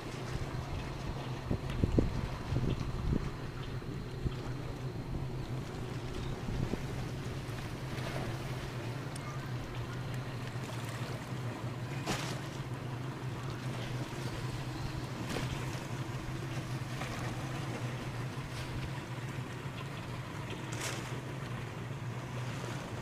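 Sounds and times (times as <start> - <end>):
boat engine droning: 0.0 - 23.0
water wash: 0.0 - 23.0
wind: 0.0 - 23.0.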